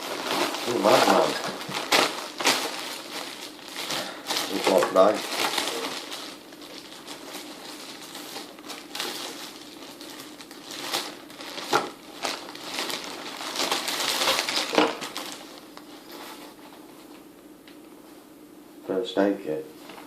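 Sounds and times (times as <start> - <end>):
packaging rustling and crinkling: 0.0 - 17.3.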